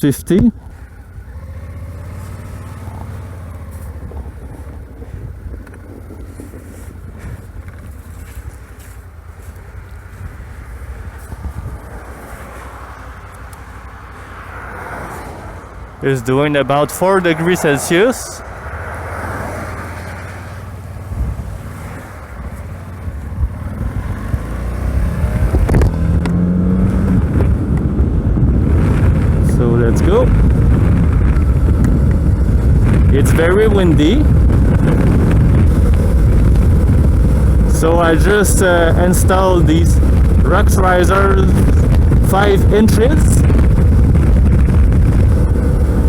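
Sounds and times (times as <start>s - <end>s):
motorcycle engine idling: 0.0s - 14.8s, 18.3s - 26.5s, 27.1s - 46.0s
wind rumbling on microphone: 0.4s - 46.0s.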